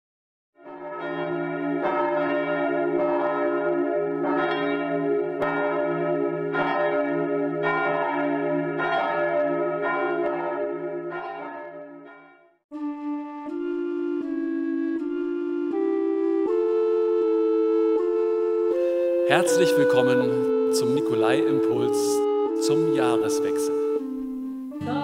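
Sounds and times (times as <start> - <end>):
church bells ringing: 0.6 - 12.6, 16.2 - 24.4.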